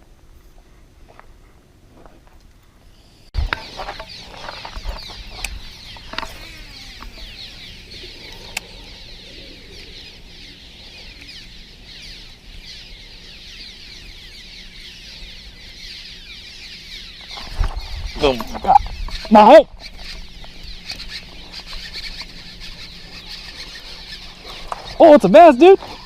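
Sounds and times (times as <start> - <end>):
small birds chirping: 2.6 - 26.0.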